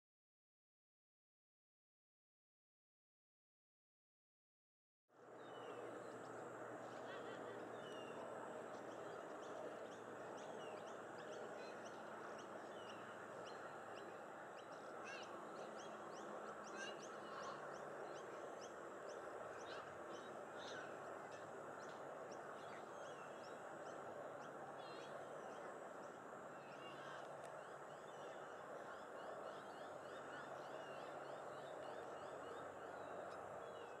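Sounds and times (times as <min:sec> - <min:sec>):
background noise wash: 0:05.2 - 0:34.0.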